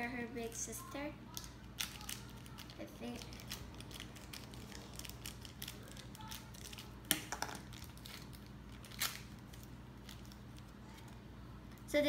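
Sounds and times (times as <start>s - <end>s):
plastic packaging crinkling: 1.3s - 11.1s.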